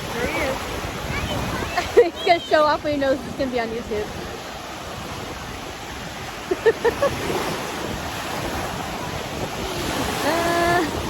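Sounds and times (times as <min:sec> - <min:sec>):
ocean waves breaking on shore: 0:00.0 - 0:11.0
wind on microphone: 0:00.0 - 0:11.0.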